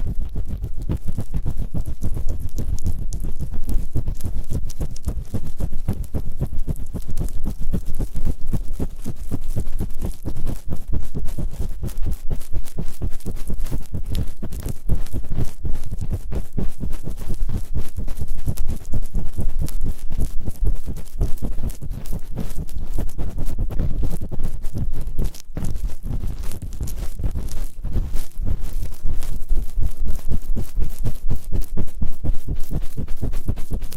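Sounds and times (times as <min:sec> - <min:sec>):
scratching on microphone: 0:00.0 - 0:33.9.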